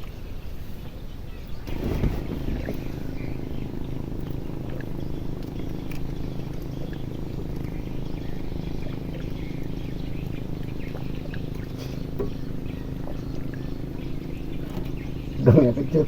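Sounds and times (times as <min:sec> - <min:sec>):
boat engine running: 0:00.0 - 0:16.0
faint clicks: 0:01.7 - 0:15.5.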